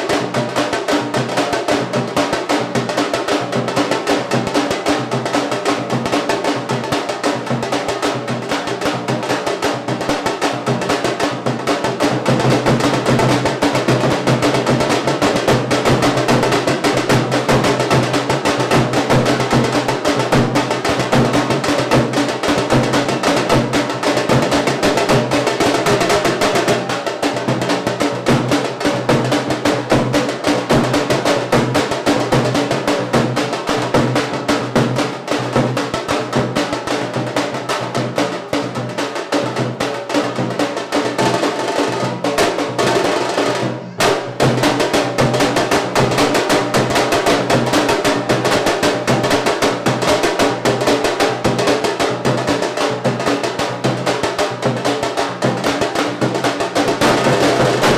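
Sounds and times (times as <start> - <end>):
music with fast dense drumming: 0.0 - 57.9.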